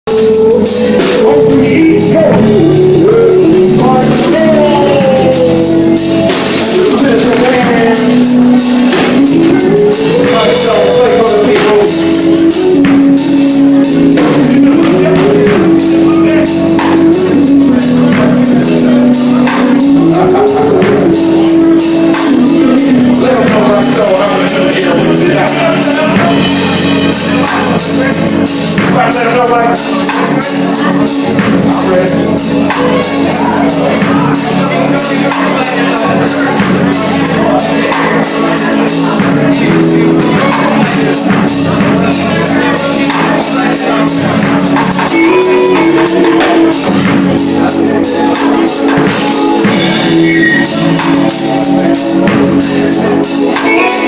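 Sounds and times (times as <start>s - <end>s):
drum beat: 0.0s - 54.0s
vocoder tone: 0.0s - 54.0s
sliding synth melody: 0.1s - 54.0s.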